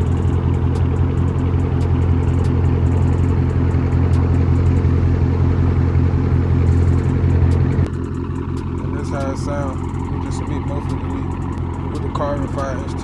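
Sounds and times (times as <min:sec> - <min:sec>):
muffled car exhaust drone: 0:00.0 - 0:13.0.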